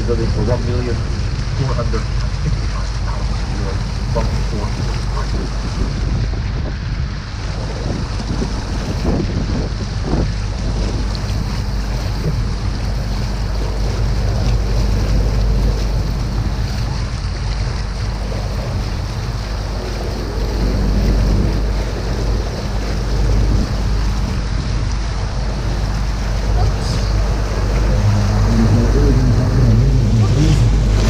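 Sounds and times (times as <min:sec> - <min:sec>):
boat motor running: 0:00.0 - 0:31.0
water noise: 0:00.0 - 0:31.0
wind rumbling on microphone: 0:00.0 - 0:31.0.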